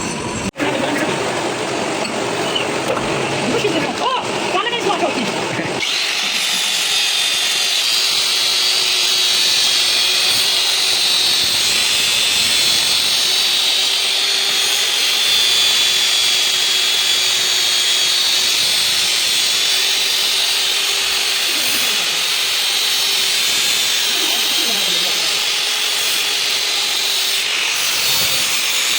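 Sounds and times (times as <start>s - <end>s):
electric power tool whining: 0.0s - 28.9s.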